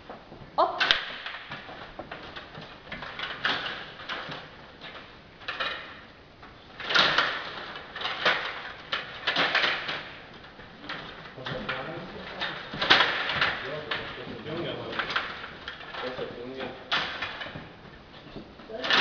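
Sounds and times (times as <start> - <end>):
plastic players and puck clacking: 0.0 - 19.0.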